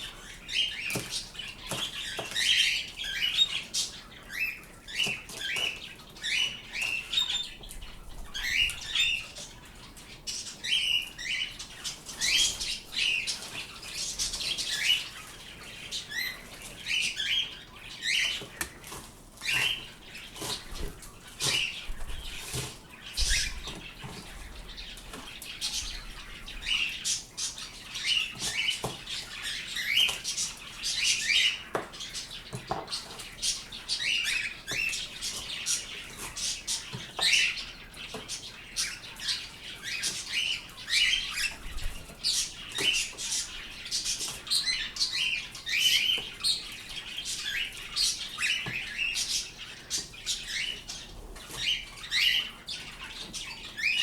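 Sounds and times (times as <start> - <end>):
pet birds chirping: 0.0 - 54.0.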